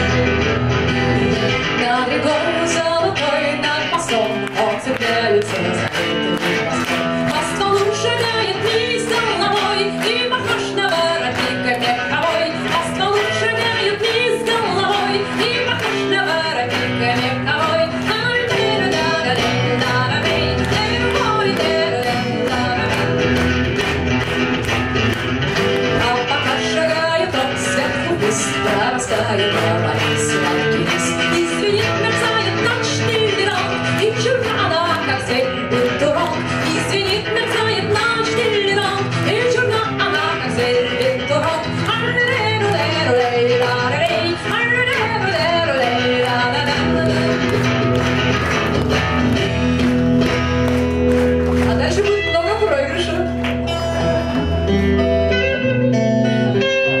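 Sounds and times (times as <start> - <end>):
electric guitars: 0.0 - 57.0
woman singing: 1.5 - 23.4, 25.8 - 47.9, 51.6 - 53.5.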